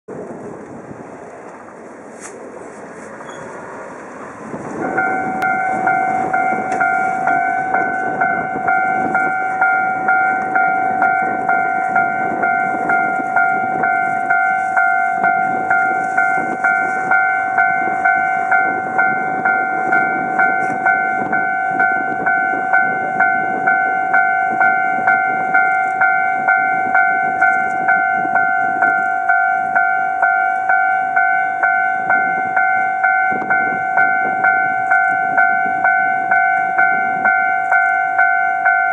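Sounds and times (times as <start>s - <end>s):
low rumble: 0.1s - 37.5s
level crossing bell ringing: 4.9s - 38.9s.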